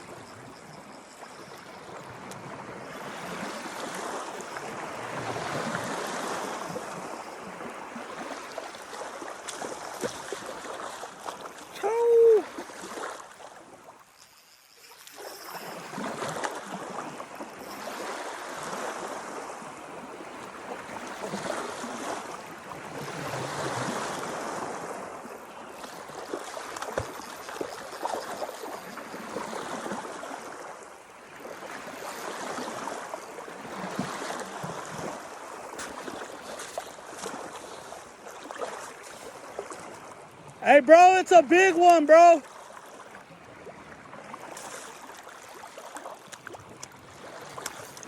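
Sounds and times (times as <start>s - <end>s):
water lapping against boat hull: 0.0s - 48.0s.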